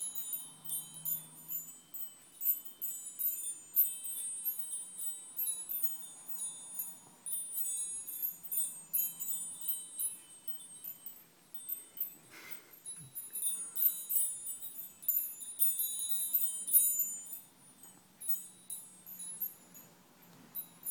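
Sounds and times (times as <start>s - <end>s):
metal tube wind chime ringing: 0.0s - 20.0s, 20.6s - 20.9s
rustle: 0.0s - 20.9s.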